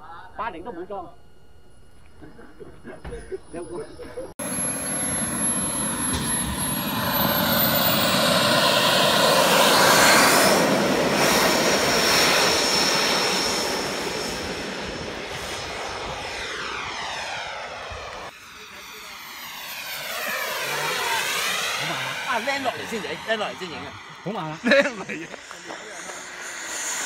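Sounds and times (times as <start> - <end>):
model jet turbine whine: 0.0 - 27.0.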